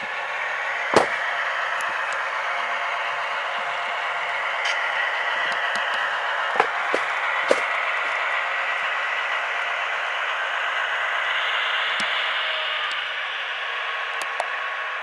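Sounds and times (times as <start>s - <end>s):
thin hissy engine sound from speaker: 0.0s - 15.0s.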